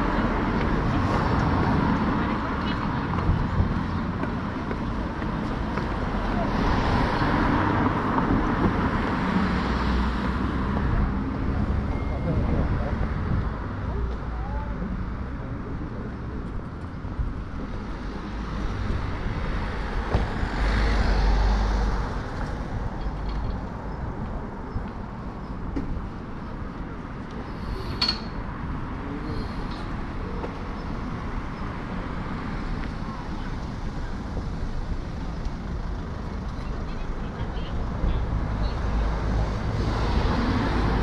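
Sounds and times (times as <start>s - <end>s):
street traffic noise: 0.0s - 41.0s.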